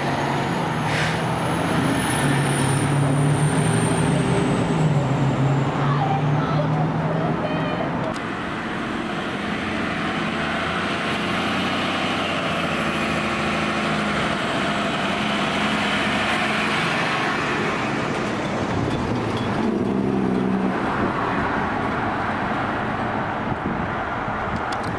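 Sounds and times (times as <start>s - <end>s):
fire engine diesel rumble: 0.0s - 24.9s
road traffic noise: 0.0s - 24.9s.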